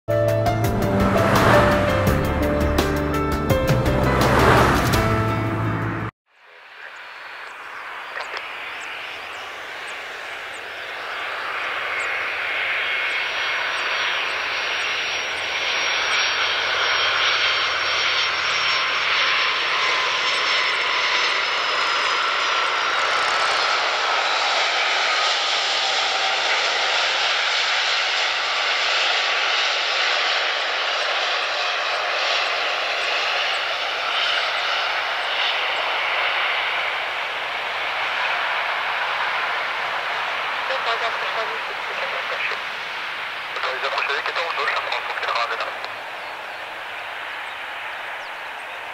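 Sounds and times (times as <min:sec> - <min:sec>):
jet engines landing: 0:00.1 - 0:48.9
faint engine whine: 0:00.2 - 0:48.9.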